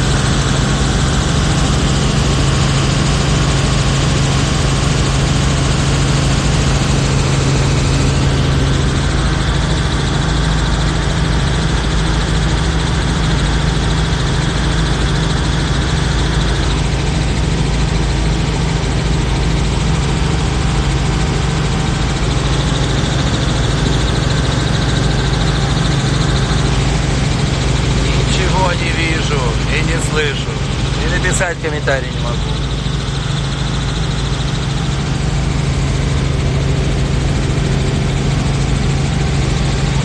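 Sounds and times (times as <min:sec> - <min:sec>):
helicopter engine and rotors droning: 0:00.0 - 0:40.0.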